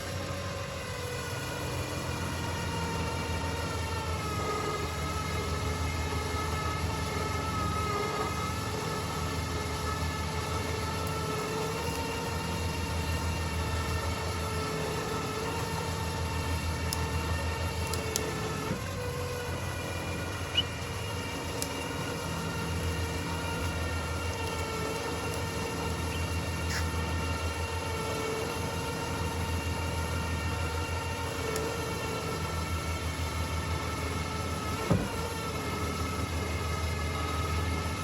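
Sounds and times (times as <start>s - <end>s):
electric winch whining: 0.0s - 38.0s
low machine hum: 0.0s - 38.0s.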